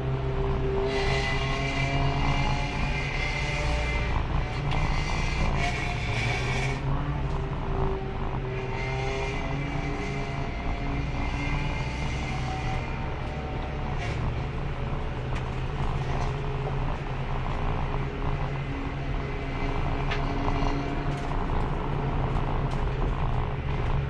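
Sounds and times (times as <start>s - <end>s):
race car engine running: 0.0s - 24.0s.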